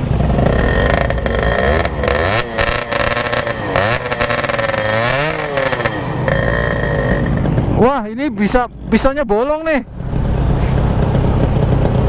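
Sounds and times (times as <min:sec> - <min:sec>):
two-stroke motorcycle engine revving: 0:00.0 - 0:09.0, 0:09.8 - 0:12.0.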